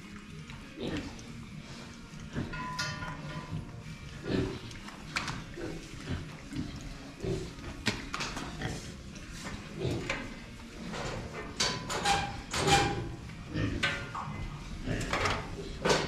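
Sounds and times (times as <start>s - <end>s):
pigs grunting: 0.0s - 16.0s.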